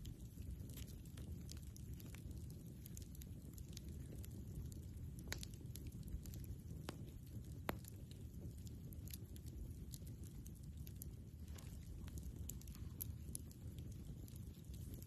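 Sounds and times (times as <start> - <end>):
campfire crackling and popping: 0.0 - 15.0
low steady rumble: 0.0 - 15.0.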